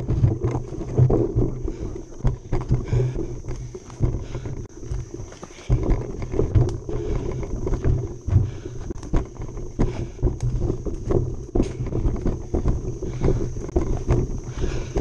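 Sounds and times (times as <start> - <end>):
mountain bike rattling over bumps: 0.0 - 15.0.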